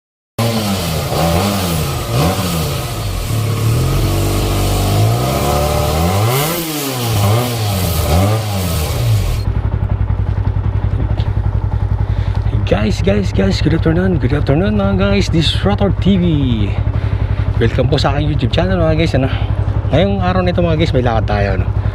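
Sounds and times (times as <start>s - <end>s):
motorcycle engine revving and idling: 0.4s - 21.9s.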